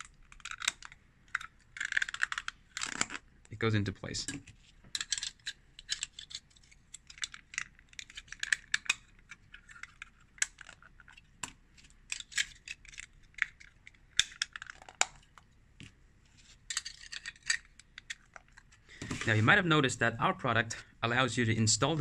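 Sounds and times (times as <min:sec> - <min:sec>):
plastic parts clicking and knocking: 0:00.0 - 0:03.3, 0:04.0 - 0:19.3.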